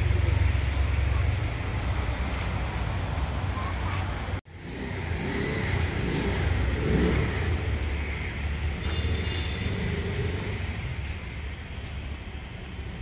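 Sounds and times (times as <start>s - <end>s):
motor vehicle rumble: 0.0s - 13.0s
road noise: 0.0s - 13.0s.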